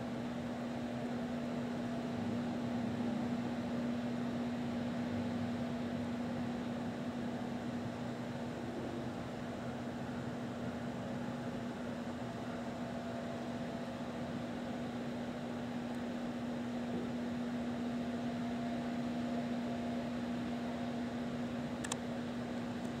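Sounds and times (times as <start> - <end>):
steady low machine hum: 0.0 - 23.0.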